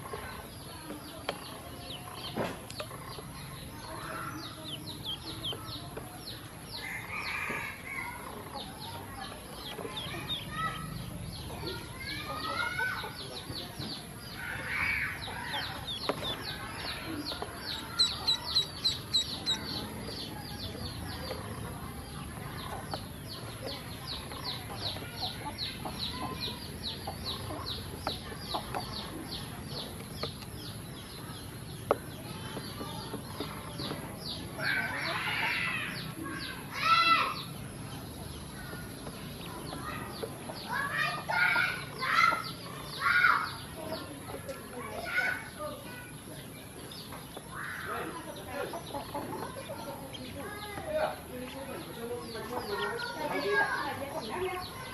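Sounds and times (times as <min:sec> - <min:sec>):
ducklings peeping: 0:00.0 - 0:54.9.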